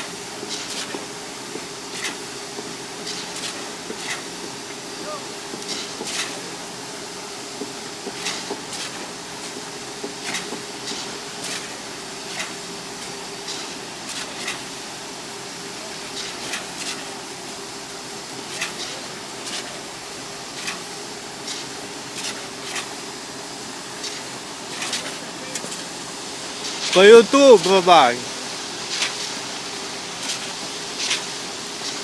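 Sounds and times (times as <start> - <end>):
concrete pump engine hum: 0.0 - 32.0.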